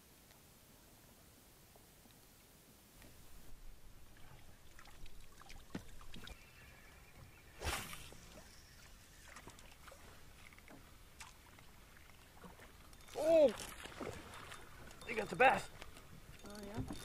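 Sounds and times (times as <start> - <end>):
water sloshing against hull: 3.0 - 17.0.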